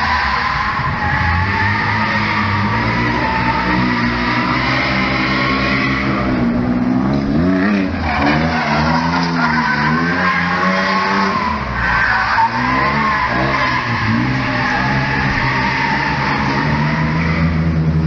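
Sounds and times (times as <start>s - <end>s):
tyres squealing: 0.0s - 6.6s, 7.4s - 17.7s
car engine revving: 0.0s - 18.0s.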